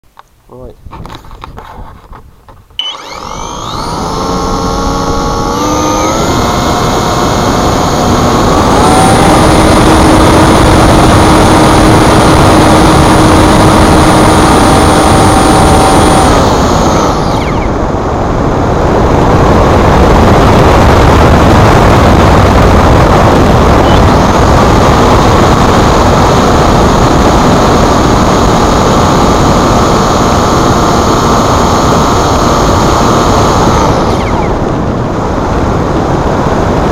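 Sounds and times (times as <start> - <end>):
electric motor propeller whine: 2.8 - 36.9.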